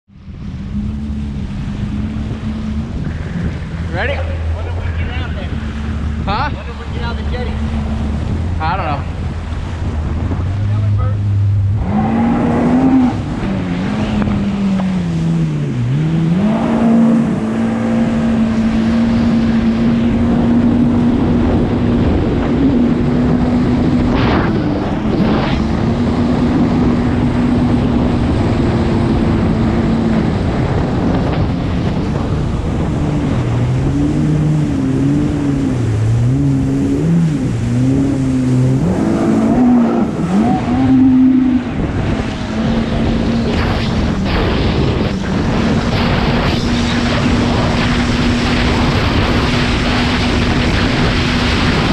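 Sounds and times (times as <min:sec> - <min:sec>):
wind: 0:00.0 - 0:51.9
jet ski engine: 0:00.1 - 0:51.9
second jet ski engine: 0:00.1 - 0:51.9.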